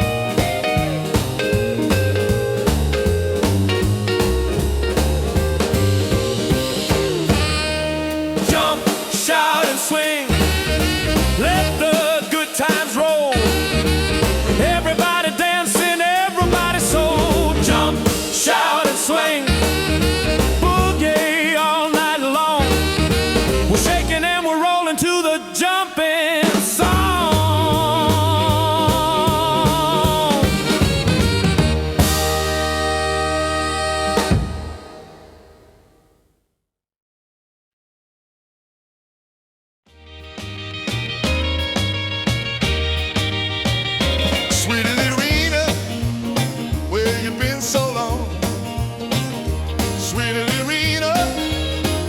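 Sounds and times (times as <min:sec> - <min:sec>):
jump-blues band music: 0:00.0 - 0:36.0, 0:39.9 - 0:52.0.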